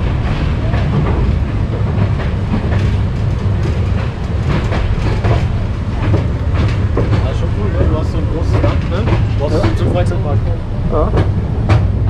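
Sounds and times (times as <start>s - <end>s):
train rumbling: 0.0s - 12.0s
wheels clicking on rails: 0.0s - 12.0s.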